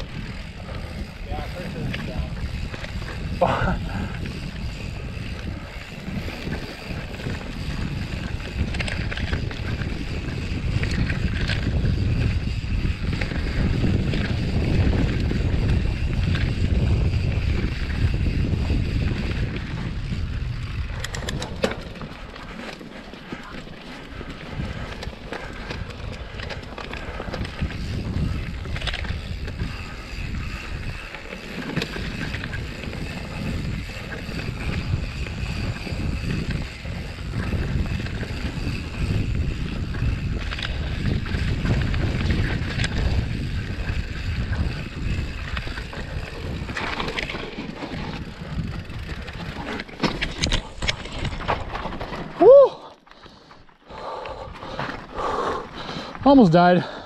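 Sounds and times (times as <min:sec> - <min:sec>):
wind rushing over microphone: 0:00.0 - 0:22.3, 0:24.1 - 0:52.8
bike chain rattling: 0:00.0 - 0:57.0.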